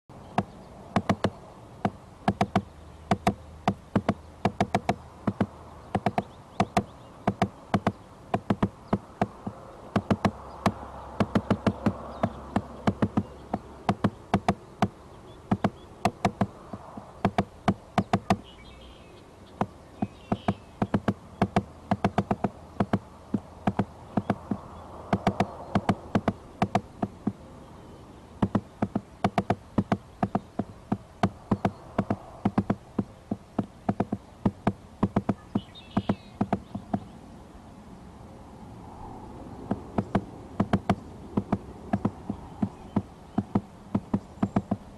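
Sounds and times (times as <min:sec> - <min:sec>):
woodpecker pecking on tree: 0:00.2 - 0:18.6, 0:19.5 - 0:27.4, 0:28.4 - 0:37.1, 0:39.6 - 0:44.9.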